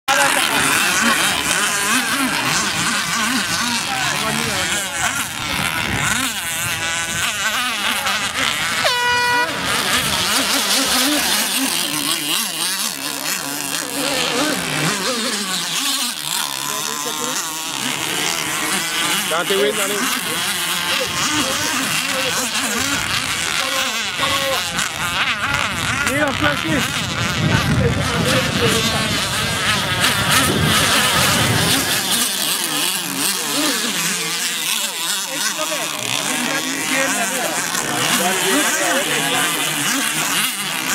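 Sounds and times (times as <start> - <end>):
model boat motors revving: 0.0 - 40.9.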